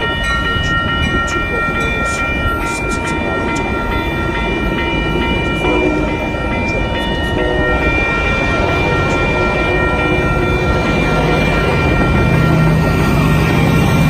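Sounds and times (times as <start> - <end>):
diesel locomotive rumbling: 0.0 - 14.0
high steady tones: 0.0 - 14.0.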